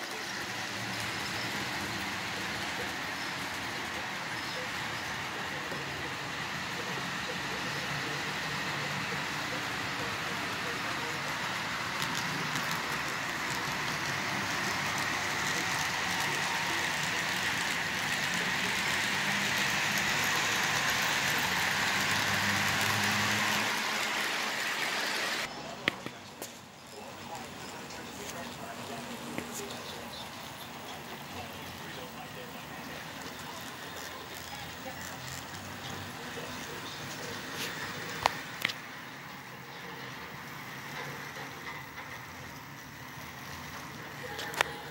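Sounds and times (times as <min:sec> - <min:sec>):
model train wheels rolling on rail: 0:00.0 - 0:44.9.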